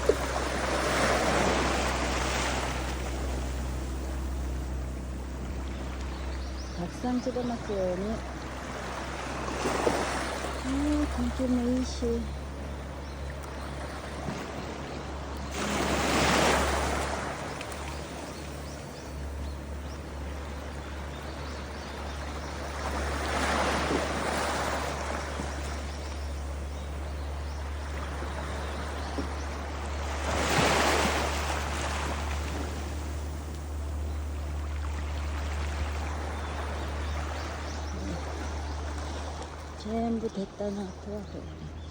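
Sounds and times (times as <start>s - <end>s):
sea waves washing in: 0.0s - 40.2s
steady low hum: 0.0s - 41.9s.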